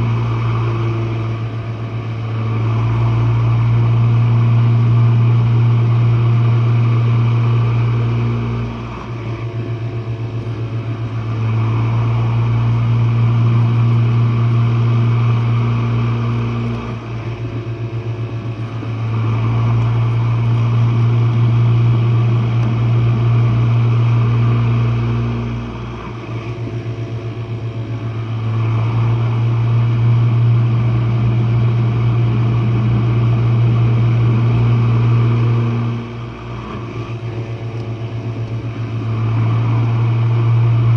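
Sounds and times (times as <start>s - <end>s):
dishwasher pump motor humming: 0.0s - 40.9s.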